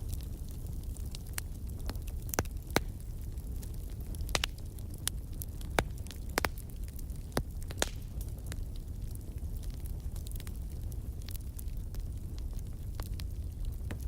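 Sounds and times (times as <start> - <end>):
fire flames rumbling: 0.0 - 14.0
wood fire popping: 0.0 - 14.0.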